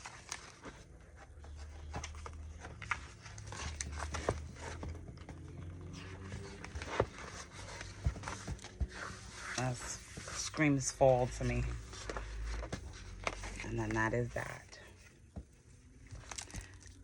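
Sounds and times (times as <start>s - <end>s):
low steady hum: 0.0s - 17.0s
paper rustling: 0.0s - 17.0s.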